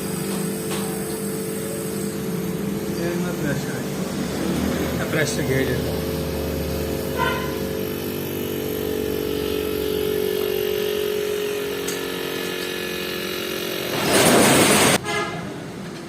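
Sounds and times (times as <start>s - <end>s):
refrigerator compressor humming: 0.0s - 15.3s.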